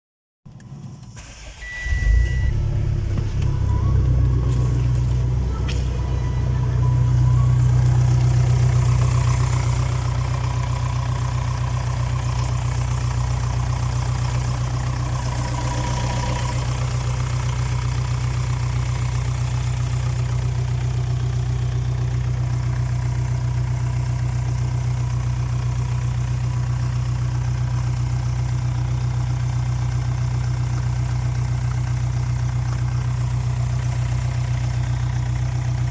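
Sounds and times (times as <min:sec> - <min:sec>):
diesel engine starting and idling: 0:00.5 - 0:35.9.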